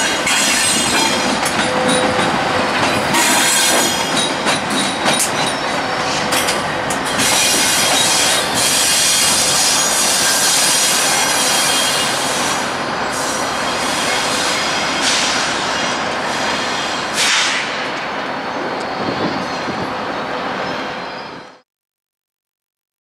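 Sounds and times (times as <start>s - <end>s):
train rumble: 0.0s - 21.6s
train wheels squealing: 0.0s - 21.6s.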